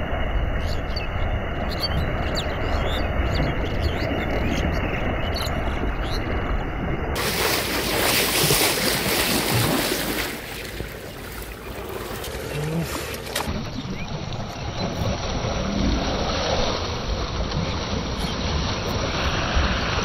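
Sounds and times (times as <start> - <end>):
water splashing and churning: 0.0 - 20.0.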